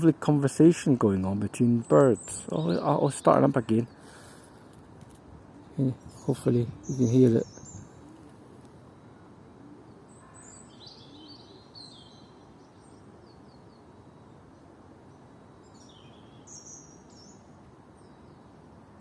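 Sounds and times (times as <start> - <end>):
small birds chirping: 0.0 - 8.8, 9.9 - 18.6
outdoor background noise: 0.0 - 19.0.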